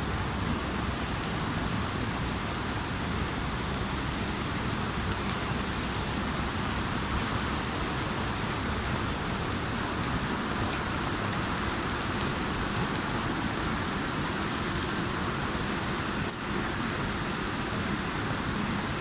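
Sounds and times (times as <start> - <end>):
campfire hissing and crackling: 0.0 - 19.0.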